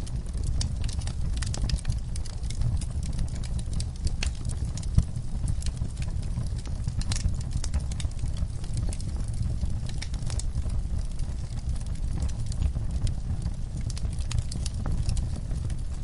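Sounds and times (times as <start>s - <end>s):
fire rumbling: 0.0s - 16.0s
wood fire crackling and popping: 0.0s - 16.0s.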